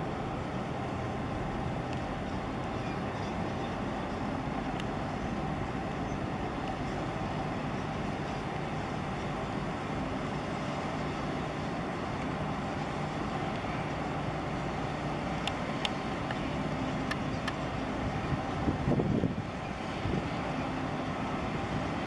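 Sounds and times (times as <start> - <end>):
boat engine running: 0.0 - 22.0
water and wind rushing: 0.0 - 22.0.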